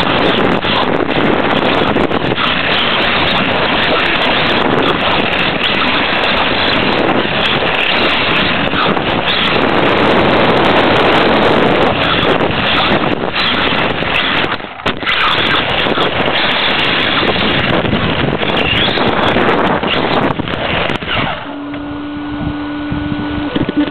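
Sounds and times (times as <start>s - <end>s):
wind over microphone: 0.0s - 23.9s.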